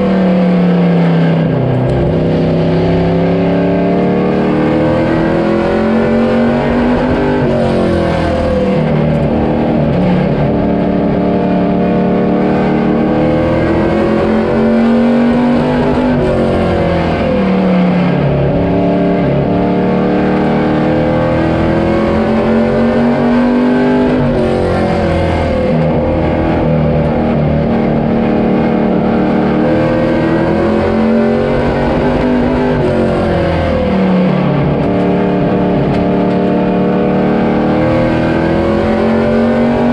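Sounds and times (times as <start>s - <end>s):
engine revving under load: 0.0s - 39.9s.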